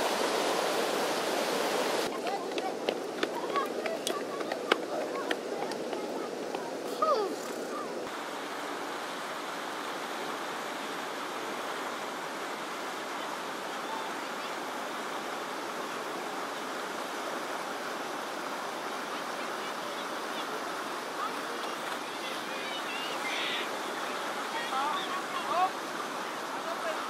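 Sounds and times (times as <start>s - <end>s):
whitewater rapids rushing: 0.0s - 27.0s.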